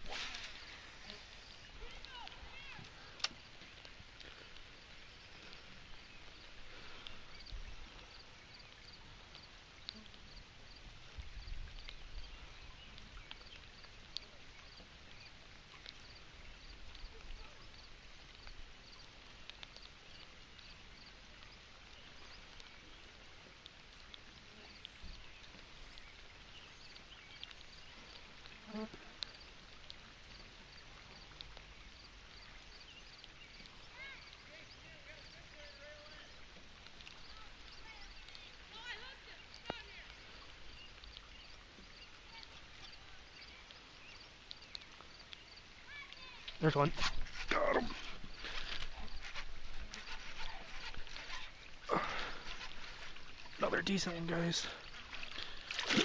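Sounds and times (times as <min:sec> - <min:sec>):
faint steady hiss: 0:00.0 - 0:56.0
insect chirping: 0:00.0 - 0:56.0.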